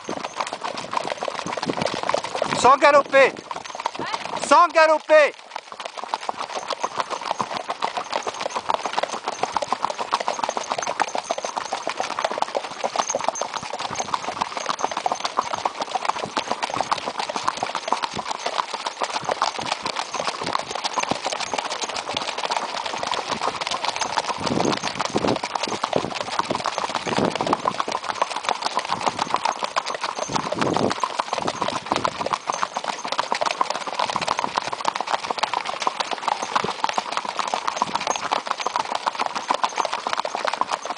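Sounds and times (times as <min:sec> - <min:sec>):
horse hooves on gravel: 0:00.0 - 0:40.9.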